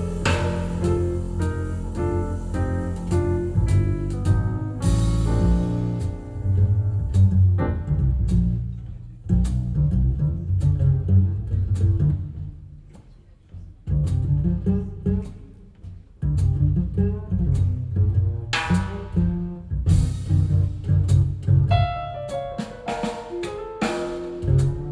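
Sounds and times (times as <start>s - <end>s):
plucked double bass: 0.0s - 24.9s.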